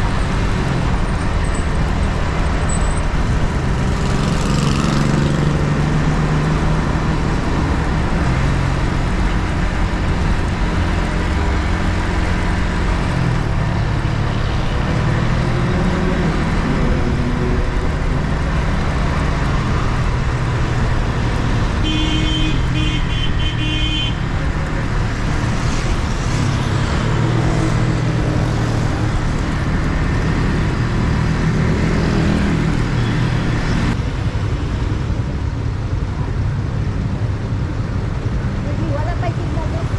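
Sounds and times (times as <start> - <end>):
motorcycle engine revving: 0.0 - 34.0
road noise: 0.0 - 39.9.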